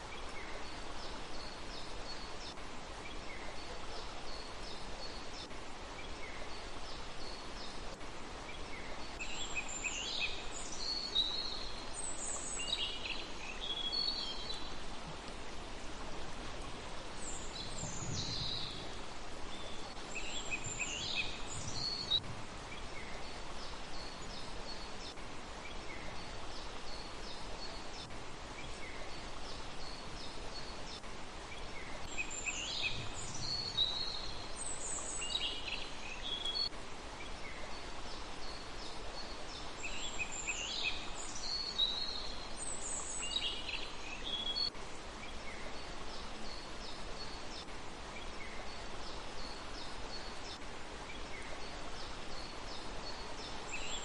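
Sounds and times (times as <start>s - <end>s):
background hiss: 0.0s - 54.0s
small songbirds chirping: 0.0s - 54.0s.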